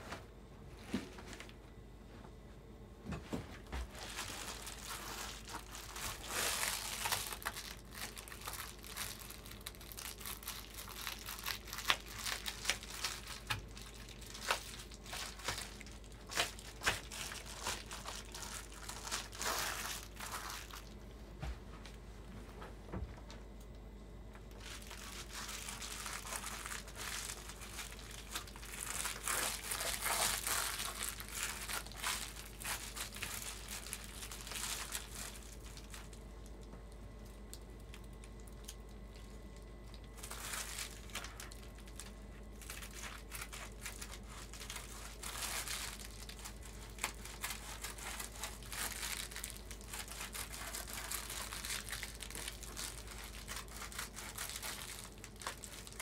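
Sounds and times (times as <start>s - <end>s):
foil insulation crinkling: 0.0s - 1.6s, 3.5s - 21.1s, 24.3s - 56.0s.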